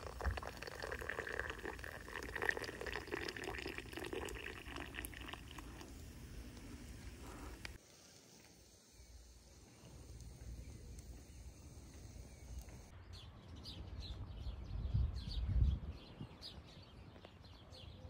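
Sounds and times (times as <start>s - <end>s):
small birds chirping: 0.3s - 18.0s.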